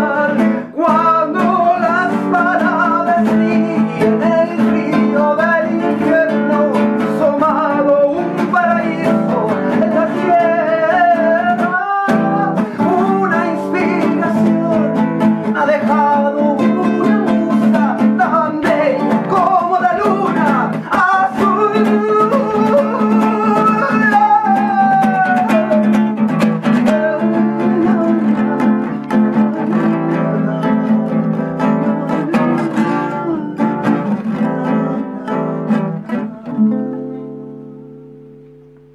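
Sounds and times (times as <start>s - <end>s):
acoustic guitars strumming: 0.0s - 38.9s.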